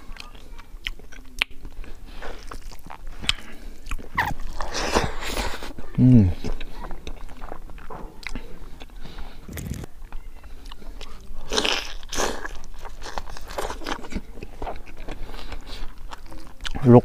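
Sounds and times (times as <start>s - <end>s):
person chewing crispy food: 0.0s - 17.0s.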